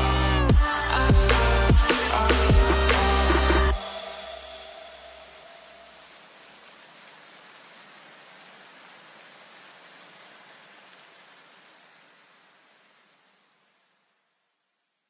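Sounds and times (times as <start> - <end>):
steady rain-like hiss: 0.1 - 15.0.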